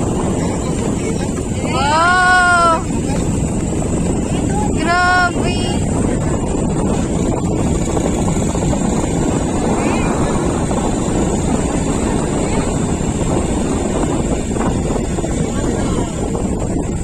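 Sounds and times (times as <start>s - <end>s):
vehicle engine and road noise: 0.0s - 17.0s
wind buffeting microphone: 0.0s - 17.0s.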